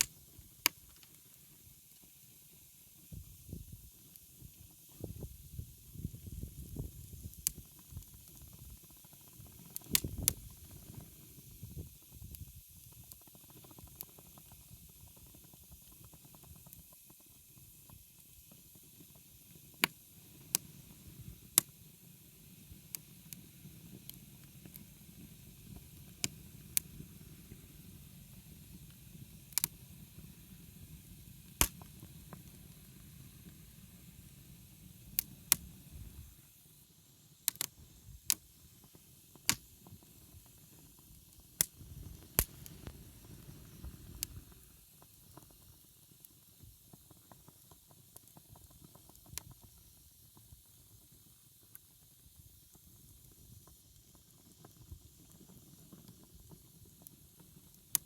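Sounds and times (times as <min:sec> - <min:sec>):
campfire crackling and popping: 0:00.0 - 0:36.4, 0:37.4 - 0:51.0, 0:52.6 - 0:58.0.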